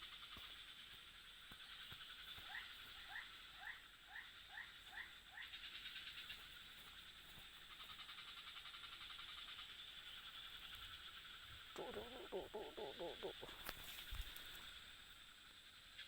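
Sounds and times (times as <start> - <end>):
chorus of night animals: 0.0 - 16.0
frog calling faintly: 1.6 - 15.1.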